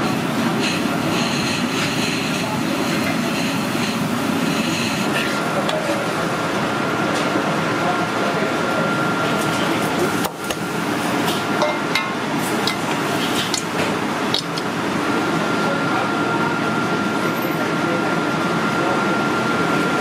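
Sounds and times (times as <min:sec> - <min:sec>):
murmur of voices: 0:00.0 - 0:12.9, 0:13.6 - 0:20.0
kitchen background noise: 0:00.0 - 0:18.0.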